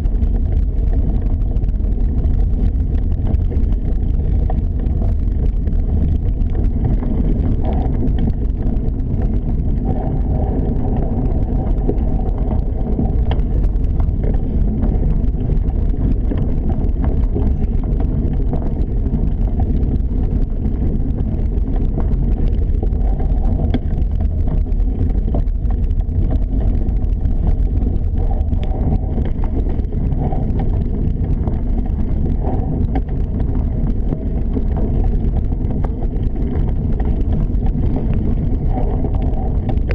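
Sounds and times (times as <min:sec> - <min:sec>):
faint ticks: 0:00.0 - 0:39.9
wind buffeting microphone: 0:00.0 - 0:39.9.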